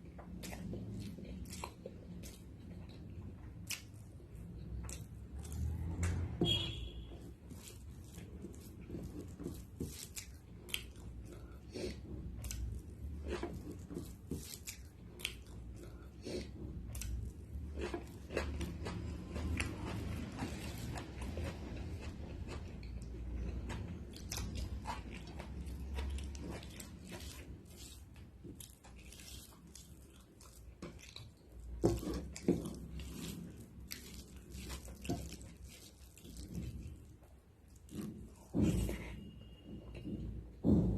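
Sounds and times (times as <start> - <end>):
person chewing crunchy food: 0.0 - 40.0.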